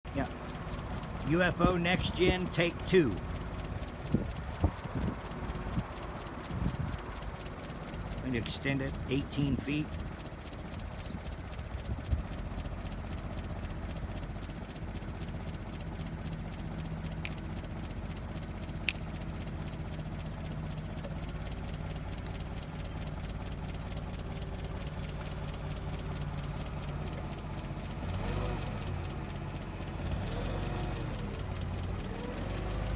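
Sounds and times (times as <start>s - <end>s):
lifting machine engine running: 0.1s - 32.9s.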